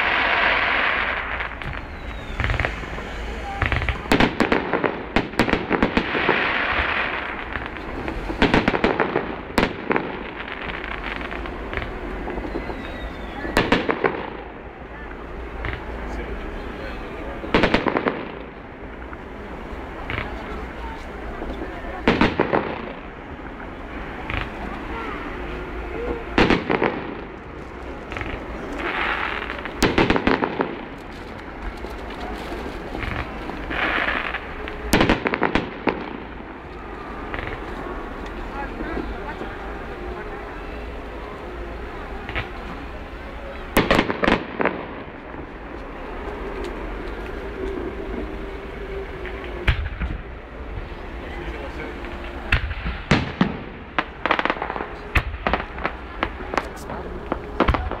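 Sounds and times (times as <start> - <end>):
fireworks banging: 0.0 - 58.0
fireworks crackling hiss: 0.0 - 58.0.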